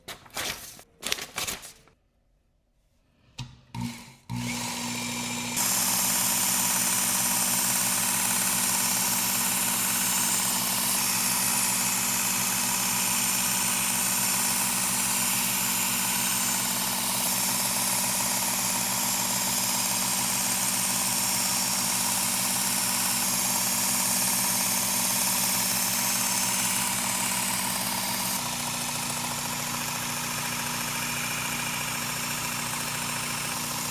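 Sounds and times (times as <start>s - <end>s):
belt sharpener motor humming: 4.3s - 33.9s.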